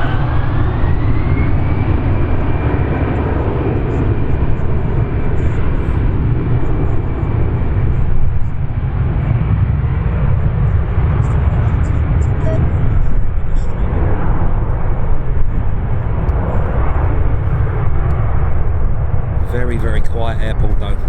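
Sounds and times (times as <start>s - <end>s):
jet engines whining: 0.0s - 21.0s
steady low rumble: 0.0s - 21.0s.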